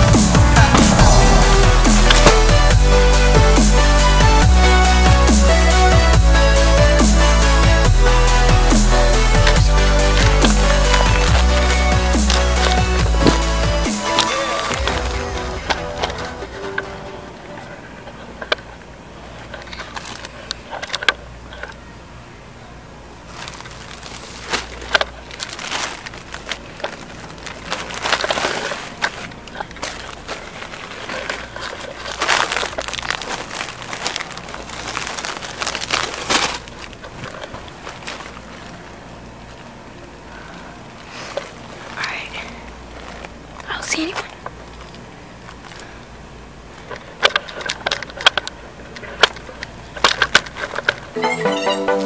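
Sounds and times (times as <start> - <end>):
plastic wrapping crinkling: 0.0 - 21.9, 23.1 - 51.2.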